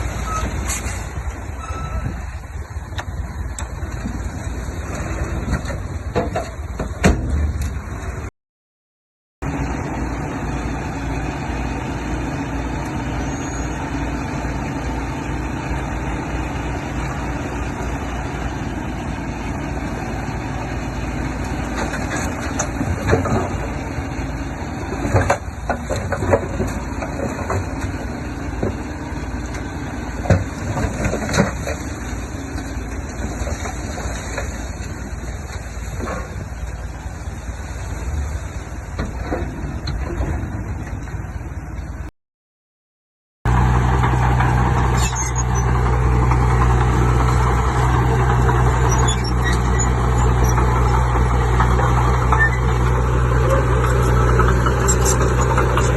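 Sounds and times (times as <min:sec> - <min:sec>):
heavy diesel machinery running: 0:09.4 - 0:42.1, 0:43.5 - 0:55.9.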